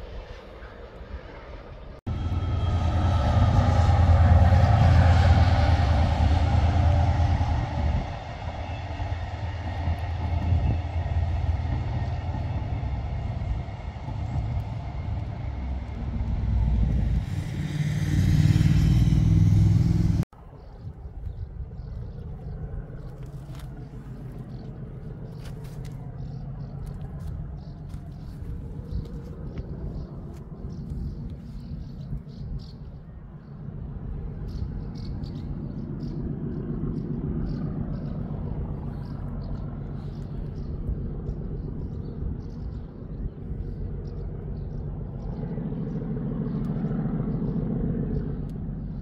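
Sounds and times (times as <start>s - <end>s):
diesel train engine passing: 0.0s - 20.5s, 22.1s - 49.0s
quiet rumble: 0.3s - 49.0s.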